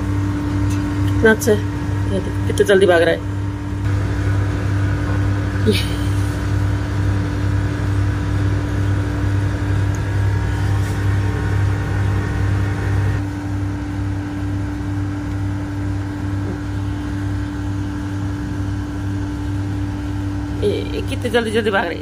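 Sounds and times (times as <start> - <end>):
low machine drone: 0.0 - 22.0
steady high machine tone: 0.0 - 22.0.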